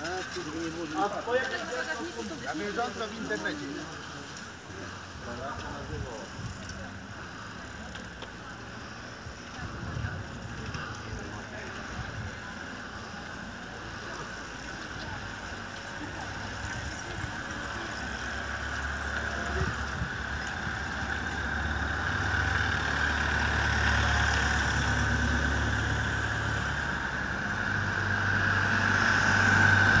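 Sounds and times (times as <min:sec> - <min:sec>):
vehicle engines at low speed: 0:00.0 - 0:30.0.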